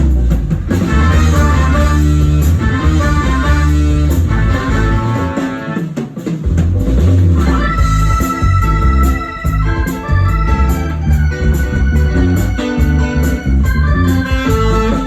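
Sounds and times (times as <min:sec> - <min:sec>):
bass: 0:00.0 - 0:15.0
drum kit: 0:00.0 - 0:15.0
organ-like keyboard melody: 0:00.0 - 0:15.0.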